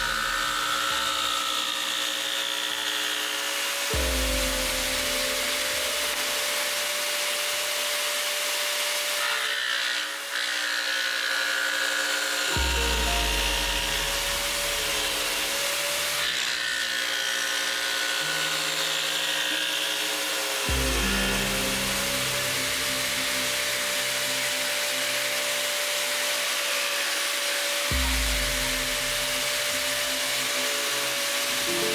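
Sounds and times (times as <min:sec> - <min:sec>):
background music: 0:00.0 - 0:08.5, 0:12.4 - 0:31.9
power saw cutting plywood: 0:00.0 - 0:31.9.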